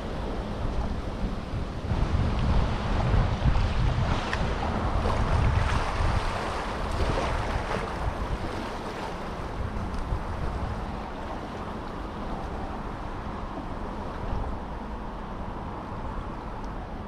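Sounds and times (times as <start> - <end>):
sea water washing: 0.0 - 16.6
wind buffeting microphone: 0.0 - 17.0.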